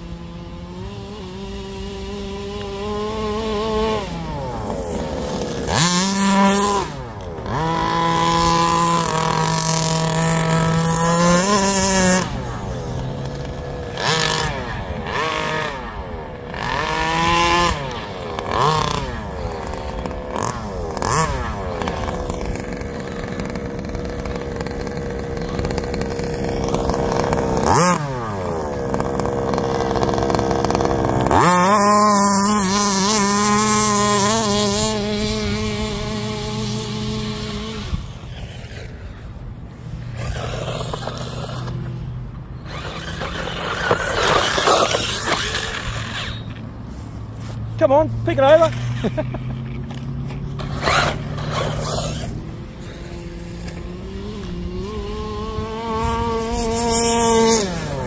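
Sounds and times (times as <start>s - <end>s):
rc buggy buzzing past: 0.0s - 58.0s
rc buggy engines revving: 0.0s - 58.0s.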